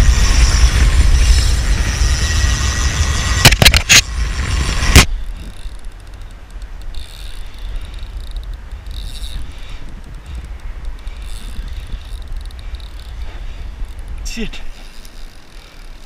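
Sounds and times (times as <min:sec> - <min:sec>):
wind buffeting microphone: 0:00.0 - 0:14.8.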